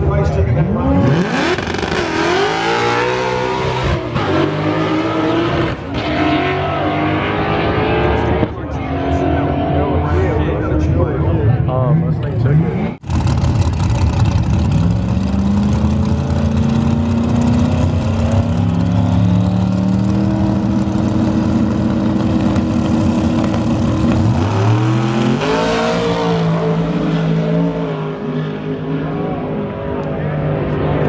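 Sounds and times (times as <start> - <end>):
drag race car engines: 0.0 - 31.0.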